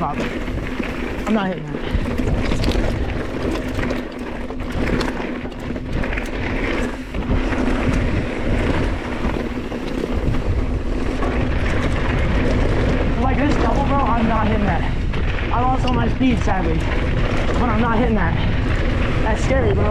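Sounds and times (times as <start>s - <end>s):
bike clicking and rattling: 0.0s - 19.9s
tyres rumbling on dirt trail: 0.0s - 19.9s
wind buffeting microphone: 0.0s - 19.9s.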